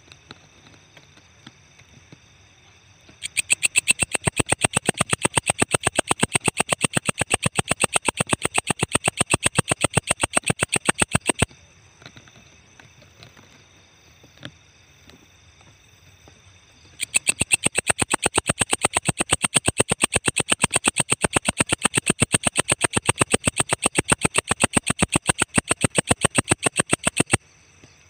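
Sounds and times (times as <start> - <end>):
insect chirping: 2.2 - 28.0.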